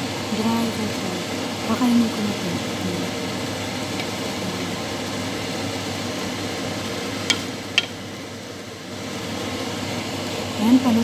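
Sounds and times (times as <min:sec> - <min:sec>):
stew simmering with hiss: 0:00.0 - 0:11.0.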